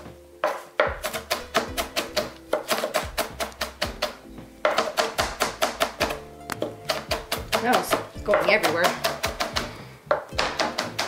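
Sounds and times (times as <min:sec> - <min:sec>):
background music sustained tones: 0:00.0 - 0:11.0
knife chopping on cutting board: 0:00.4 - 0:11.0.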